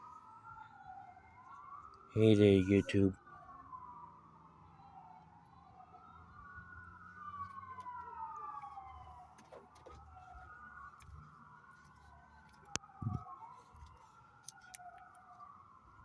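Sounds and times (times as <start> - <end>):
faint police siren wailing: 0.0 - 16.0.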